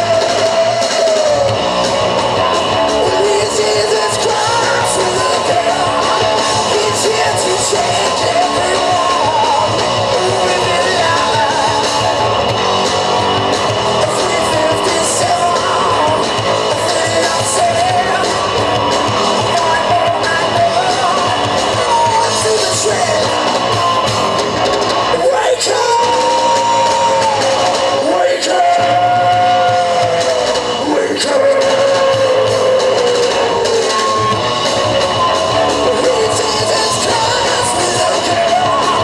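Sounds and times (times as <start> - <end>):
person singing: 0.0 - 1.8, 2.4 - 12.5, 13.9 - 24.0, 25.1 - 34.4, 35.4 - 39.0
drums: 0.0 - 39.0
electric guitars: 0.0 - 39.0.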